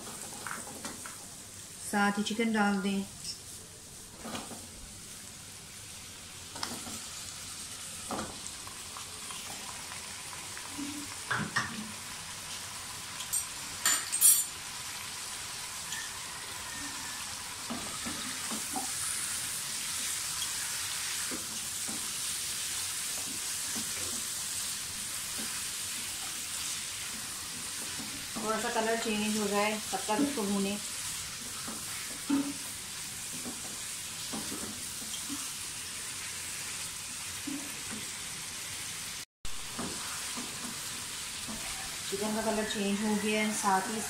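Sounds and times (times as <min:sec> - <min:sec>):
chicken sizzling in hot oil: 0:00.0 - 0:13.9, 0:14.5 - 0:44.0.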